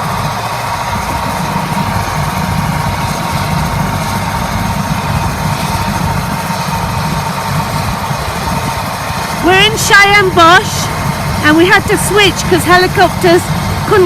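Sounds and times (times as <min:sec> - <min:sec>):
helicopter running: 0:00.0 - 0:14.0.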